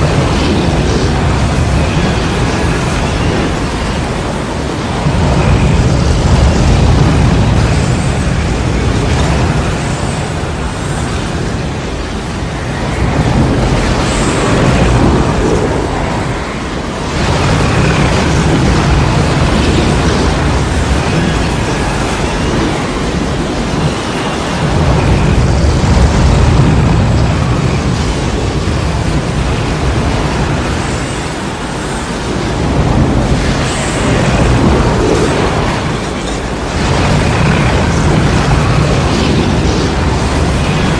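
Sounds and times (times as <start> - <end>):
roaring wind with low rumble: 0.0 - 40.9.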